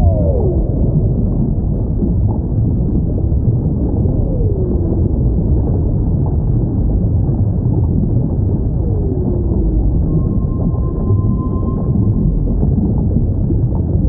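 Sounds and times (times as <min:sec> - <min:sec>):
low underwater rumbling: 0:00.0 - 0:14.0.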